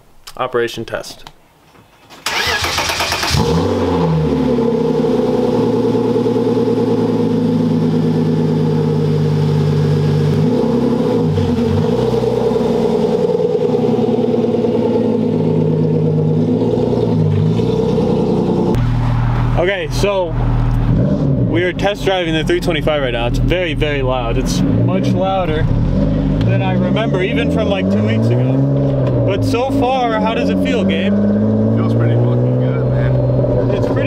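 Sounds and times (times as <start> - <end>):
loud car engine idling and revving: 2.9 - 34.0.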